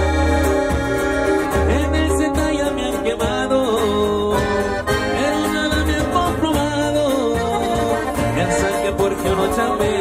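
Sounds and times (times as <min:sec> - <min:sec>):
accordion melody: 0:00.0 - 0:10.0
bass line: 0:00.0 - 0:10.0.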